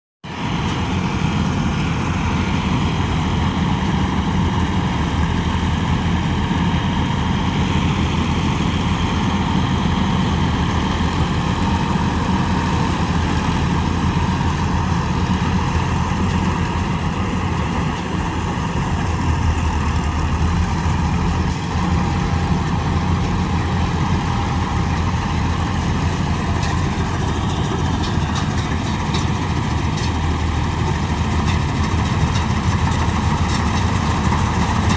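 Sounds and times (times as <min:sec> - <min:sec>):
diesel engine drone: 0:00.2 - 0:34.9.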